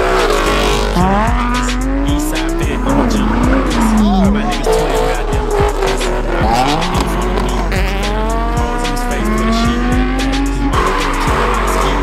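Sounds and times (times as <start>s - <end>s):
car engine accelerating hard: 0.0s - 12.0s
rap music with heavy beat: 0.0s - 12.0s.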